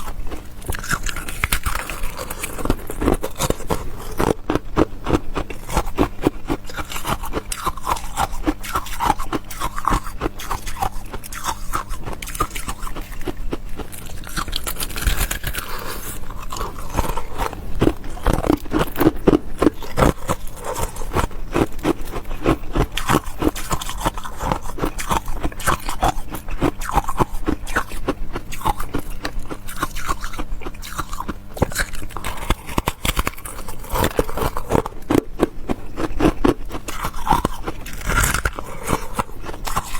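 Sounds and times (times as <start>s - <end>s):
chewing crunching ice: 0.0s - 39.9s.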